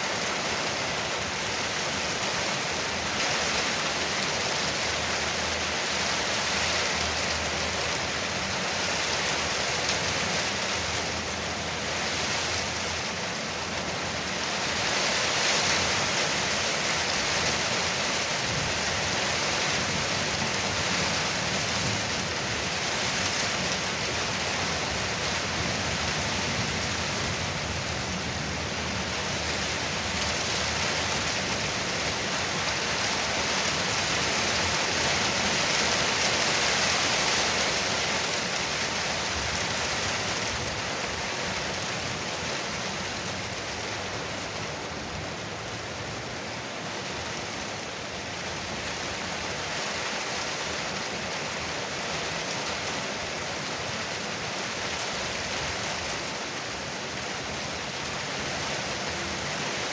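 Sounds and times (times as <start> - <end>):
rain pattering on a roof: 0.0 - 59.9.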